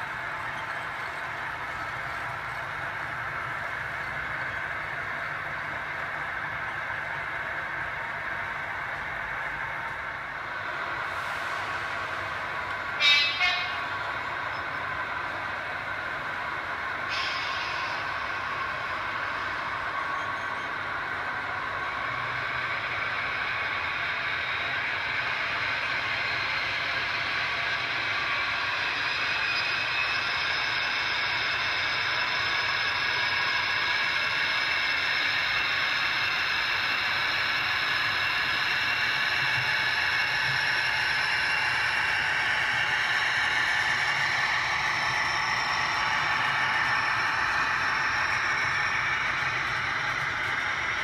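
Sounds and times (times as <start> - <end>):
model diesel locomotive running: 0.0 - 51.0.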